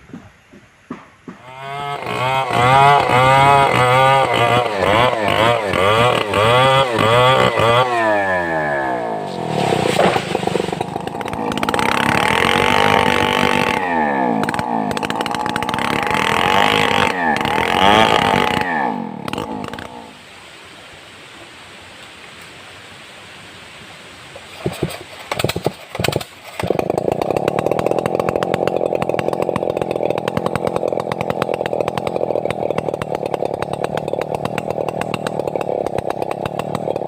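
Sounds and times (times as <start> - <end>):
chainsaw revving and cutting wood: 1.3 - 20.2, 24.5 - 37.0.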